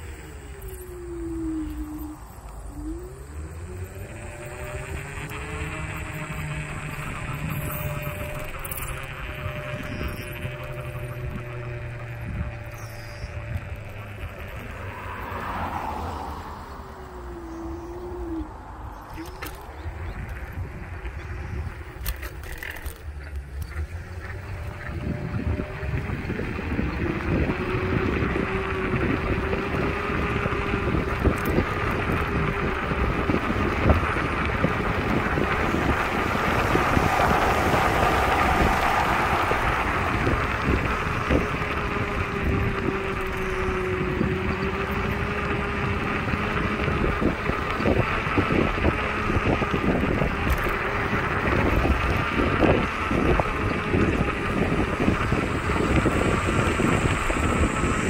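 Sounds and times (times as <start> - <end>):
electric scooter motor whine: 0.0 - 58.0
wind noise on microphone: 0.0 - 58.0.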